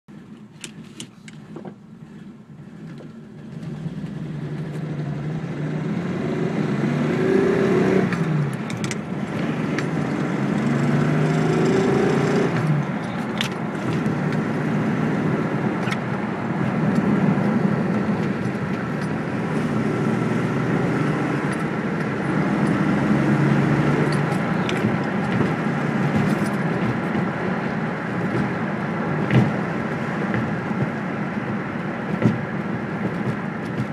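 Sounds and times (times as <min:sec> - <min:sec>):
car engine revving: 0:02.1 - 0:33.9.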